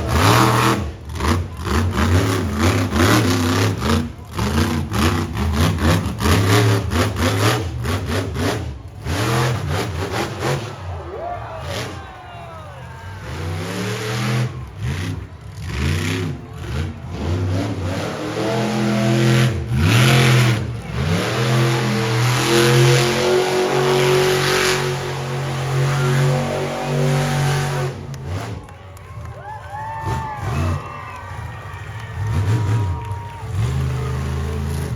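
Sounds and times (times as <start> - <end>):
monster truck engine revving: 0.0 - 34.9.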